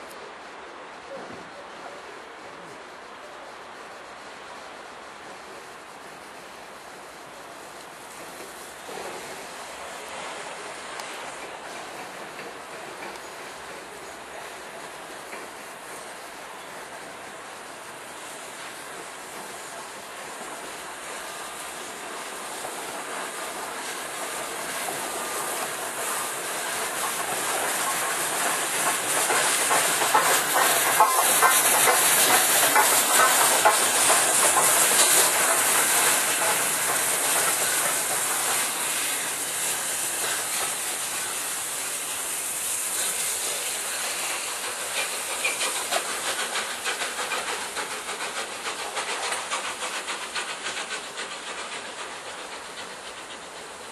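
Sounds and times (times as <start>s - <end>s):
steam hissing: 0.0s - 53.9s
locomotive rhythmic clatter: 7.8s - 53.9s.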